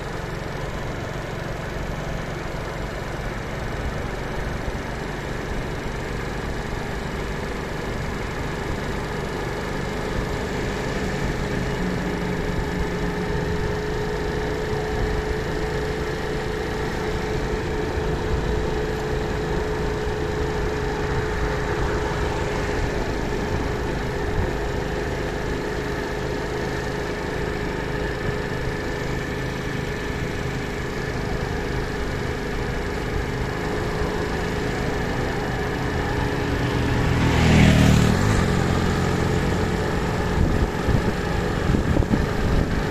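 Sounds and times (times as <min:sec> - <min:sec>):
engine humming: 0:00.0 - 0:42.9.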